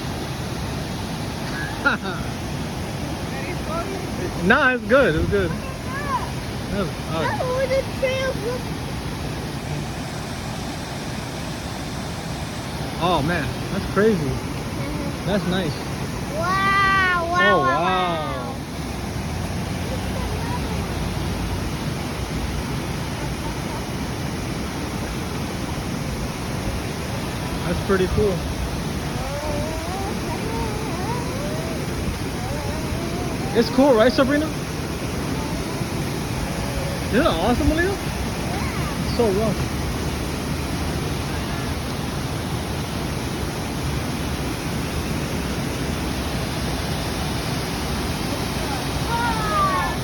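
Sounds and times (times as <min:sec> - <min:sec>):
water rushing over waterfall: 0:00.0 - 0:50.0.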